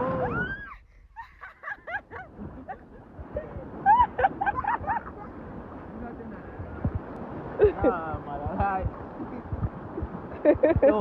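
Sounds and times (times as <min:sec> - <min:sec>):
rushing water: 0:00.0 - 0:00.6, 0:01.4 - 0:11.0.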